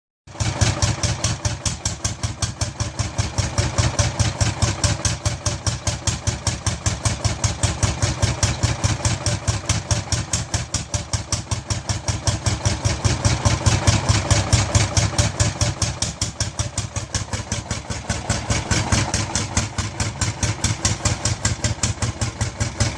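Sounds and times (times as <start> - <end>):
tractor engine thumping: 0.4 - 22.9.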